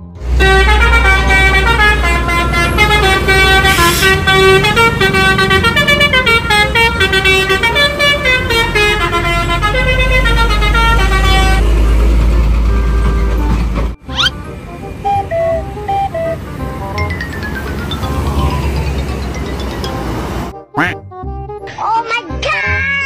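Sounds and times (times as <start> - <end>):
bus engine rumble: 0.0 - 20.5
multi-tone bus horn melody: 0.0 - 21.7.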